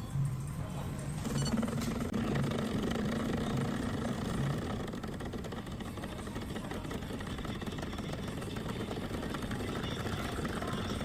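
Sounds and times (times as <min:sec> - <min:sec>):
espresso machine pump humming: 0:01.2 - 0:11.0.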